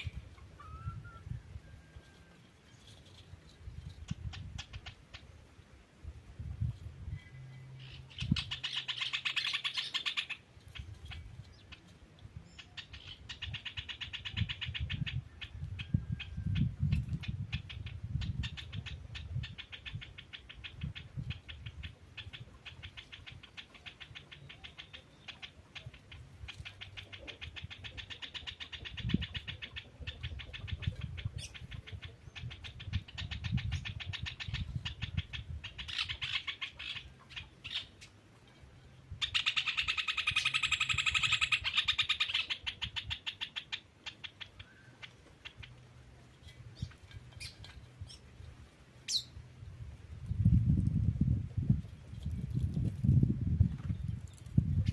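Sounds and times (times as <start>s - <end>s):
birds chirping rapidly: 0.0s - 5.4s, 6.6s - 49.6s
low pulsing bird calls: 0.0s - 5.5s, 7.0s - 49.5s.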